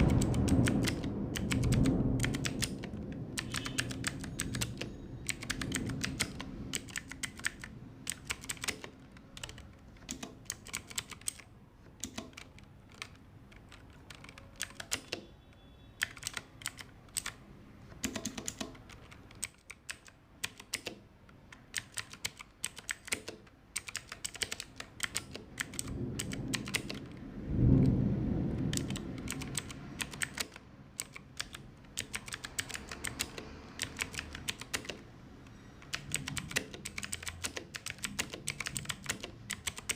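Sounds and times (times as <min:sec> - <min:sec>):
mechanical keyboard key clicks: 0:00.0 - 0:15.3, 0:16.0 - 0:27.2, 0:28.7 - 0:39.9.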